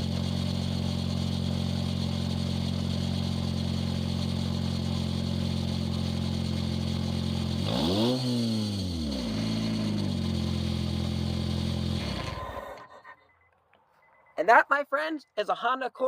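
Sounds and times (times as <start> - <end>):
car engine idling and revving: 0.0 - 13.4.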